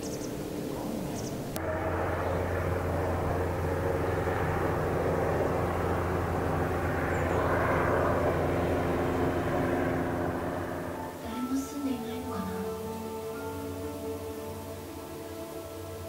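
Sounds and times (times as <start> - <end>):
motor droning hum: 0.0 - 16.0.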